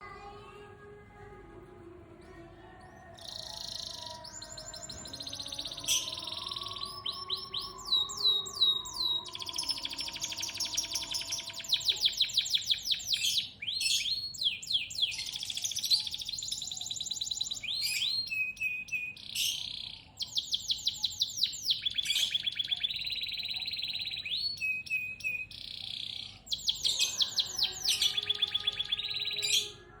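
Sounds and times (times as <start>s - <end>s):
canary singing trills: 2.3s - 30.0s.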